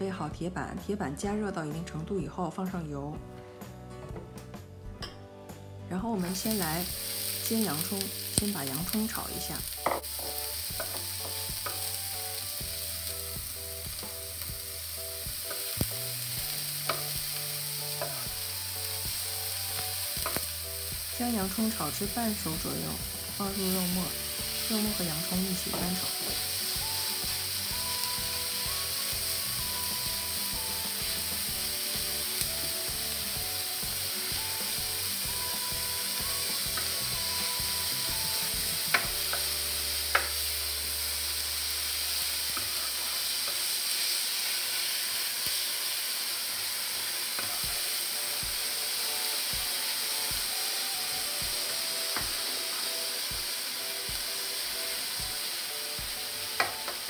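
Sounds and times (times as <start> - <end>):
meat sizzling on a griddle: 6.2 - 57.0.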